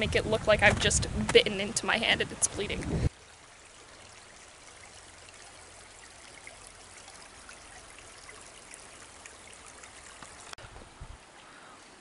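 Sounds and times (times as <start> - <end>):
faint rush of running water: 0.0 - 12.0.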